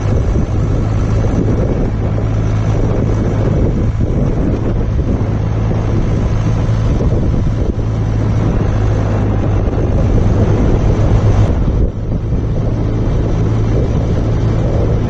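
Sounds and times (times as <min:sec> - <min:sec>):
tractor diesel engine running: 0:00.0 - 0:15.0
wind buffeting microphone: 0:00.0 - 0:15.0.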